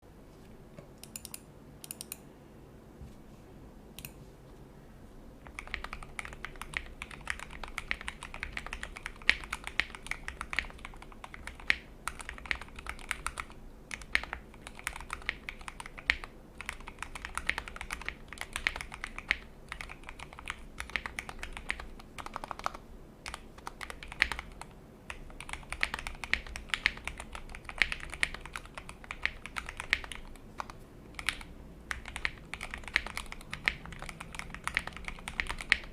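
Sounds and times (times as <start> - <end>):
mechanical keyboard typing: 5.4 - 35.9.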